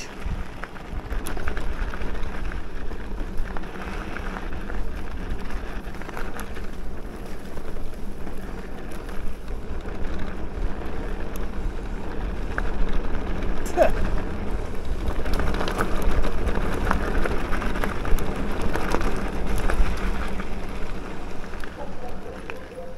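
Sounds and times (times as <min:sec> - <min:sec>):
bike tyre rumble: 0:00.0 - 0:22.9
wind noise on microphone: 0:00.0 - 0:22.9.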